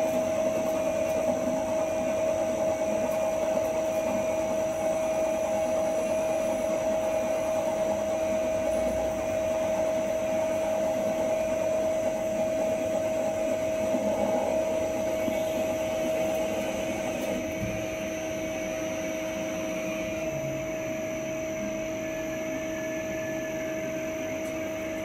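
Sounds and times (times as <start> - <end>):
lathe spindle whine: 0.0 - 25.0.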